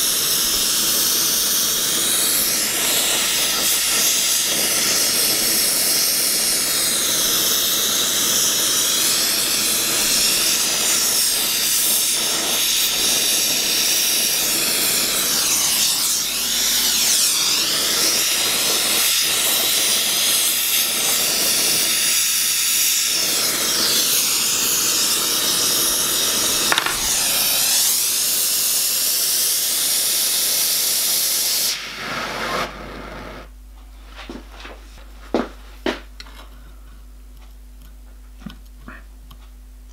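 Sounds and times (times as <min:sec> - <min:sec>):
gas torch flame hissing: 0:00.0 - 0:33.5.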